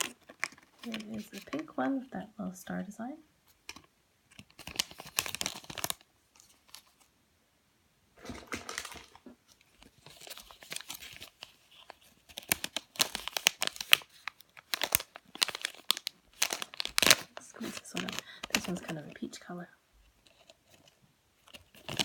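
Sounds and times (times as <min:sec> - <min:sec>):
packaging crinkling and tearing: 0:00.0 - 0:01.7, 0:03.7 - 0:07.0, 0:08.2 - 0:19.4, 0:20.2 - 0:22.0.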